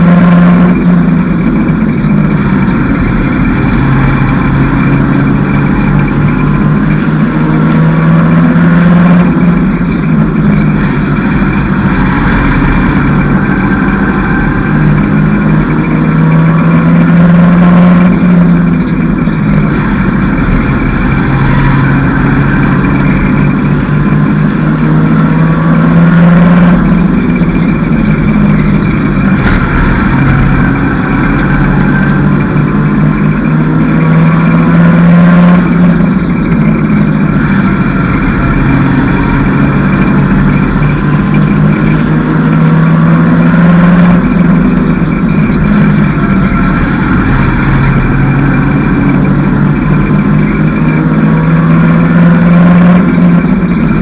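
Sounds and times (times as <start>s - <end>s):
race car engine: 0.0s - 54.0s
road and wind noise: 0.0s - 54.0s.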